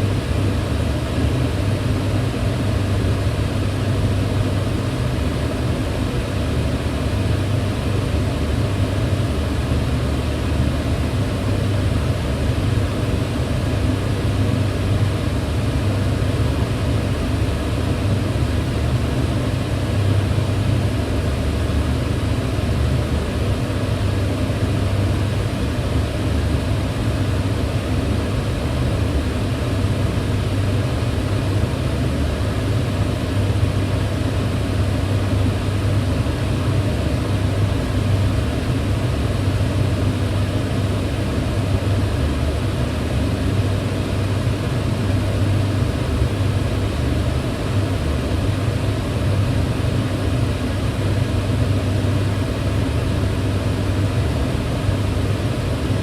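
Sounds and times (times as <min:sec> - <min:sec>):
range hood fan running: 0:00.0 - 0:56.0.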